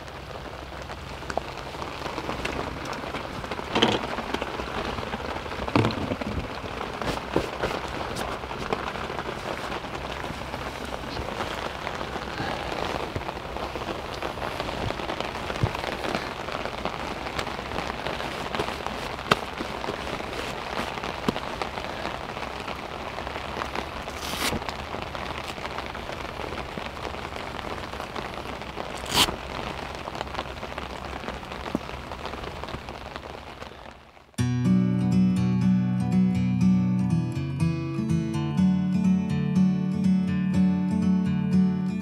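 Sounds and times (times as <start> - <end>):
heavy rain falling: 0.0 - 34.4.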